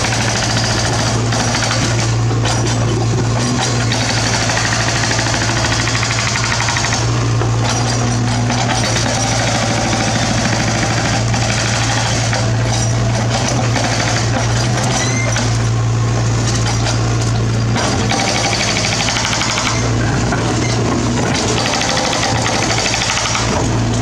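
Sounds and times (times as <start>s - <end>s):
excavator diesel engine clattering: 0.0s - 24.0s.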